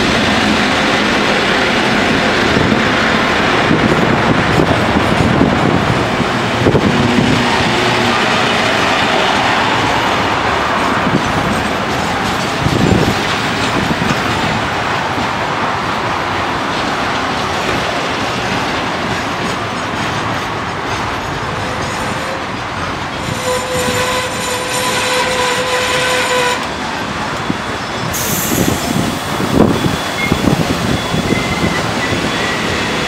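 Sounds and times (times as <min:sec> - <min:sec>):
train wheels clicking over joints: 0:00.0 - 0:33.0.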